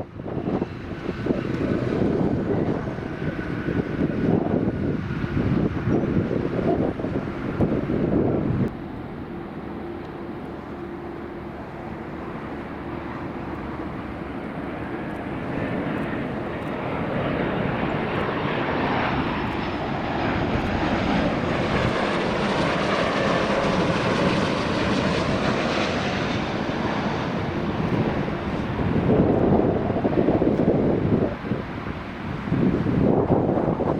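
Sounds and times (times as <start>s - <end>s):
airliner engines roaring: 0.0s - 33.9s.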